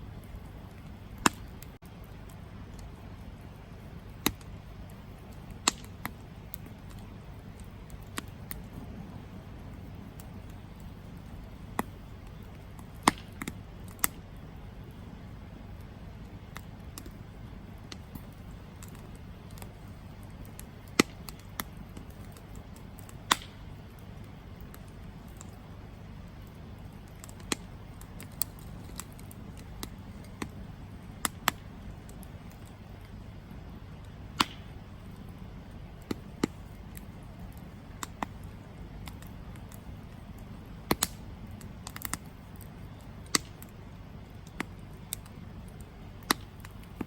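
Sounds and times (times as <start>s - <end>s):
campfire crackling: 0.0s - 47.0s
low background noise: 0.0s - 47.0s.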